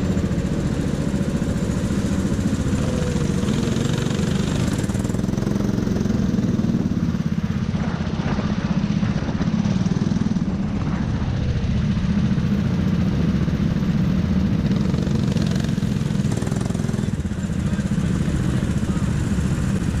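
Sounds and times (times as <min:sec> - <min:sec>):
go-kart engine idling: 0:00.0 - 0:20.0.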